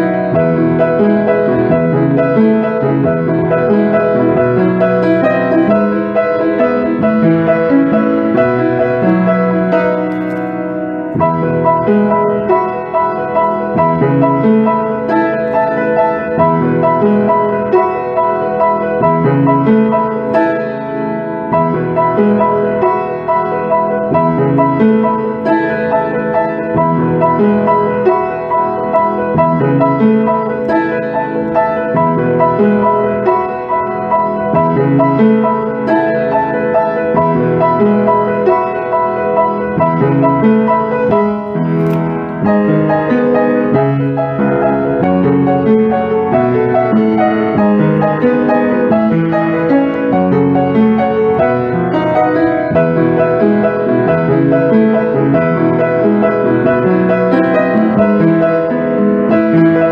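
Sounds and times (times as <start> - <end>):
piano background music: 0.0 - 59.9.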